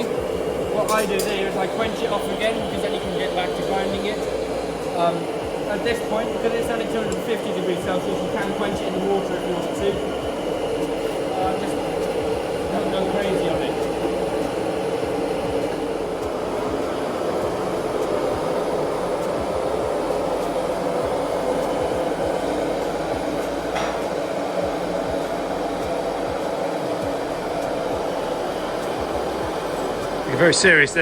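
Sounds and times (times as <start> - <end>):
forge rushing noise: 0.0 - 31.0.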